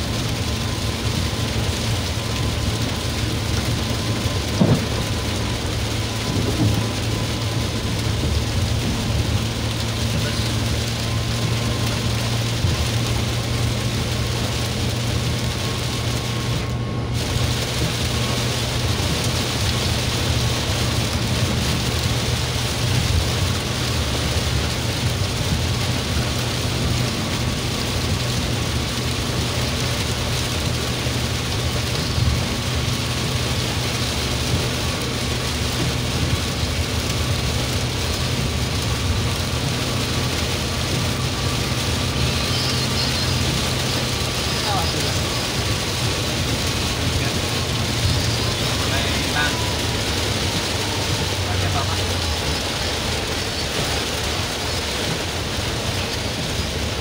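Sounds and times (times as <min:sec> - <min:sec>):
engine and tyre hum: 0:00.0 - 0:57.0
heavy rain on car roof: 0:00.0 - 0:57.0.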